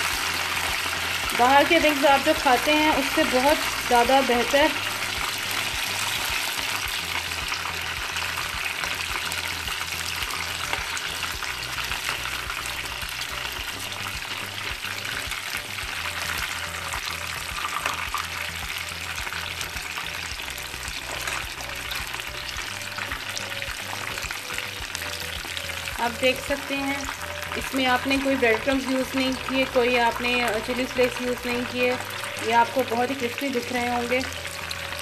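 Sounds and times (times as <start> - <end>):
chicken frying in hot oil: 0.0 - 35.0.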